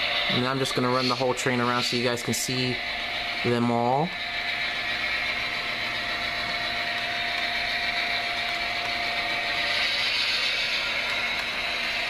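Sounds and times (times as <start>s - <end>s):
model train rolling hum: 0.0s - 12.0s
thin steady whine: 0.0s - 12.0s.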